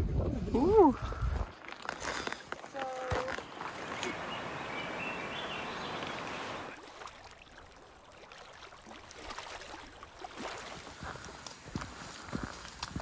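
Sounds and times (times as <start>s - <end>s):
lake waves lapping over pebbles: 1.0s - 13.0s.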